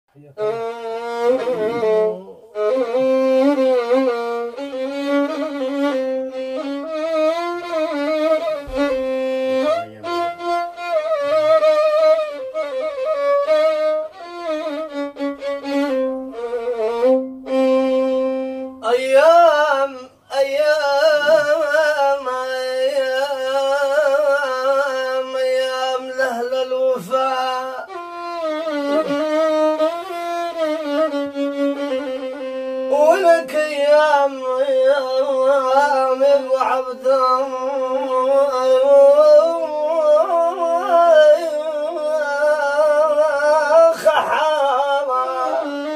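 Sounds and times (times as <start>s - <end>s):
solo violin melody: 0.2s - 45.9s.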